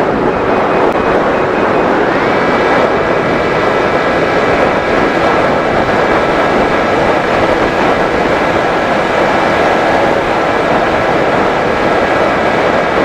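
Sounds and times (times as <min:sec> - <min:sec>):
electric motor and propeller whine: 0:00.0 - 0:13.0
rushing noise: 0:00.0 - 0:13.0.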